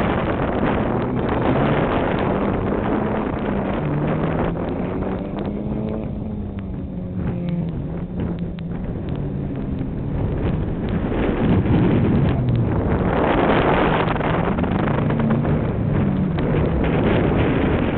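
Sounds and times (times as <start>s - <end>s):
rally car engine: 0.0s - 17.9s
wind on microphone: 0.0s - 17.9s.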